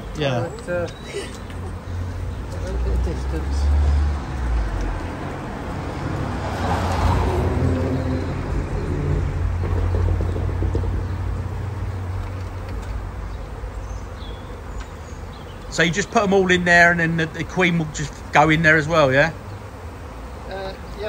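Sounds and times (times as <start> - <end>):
bee swarm humming: 0.0 - 21.0
low traffic rumble: 0.0 - 21.0
car passing: 1.6 - 14.7, 15.3 - 20.9.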